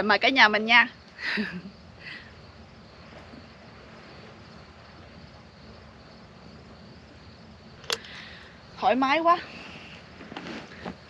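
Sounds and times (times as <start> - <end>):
crickets chirring: 0.0 - 11.0
low even hiss: 0.0 - 11.0.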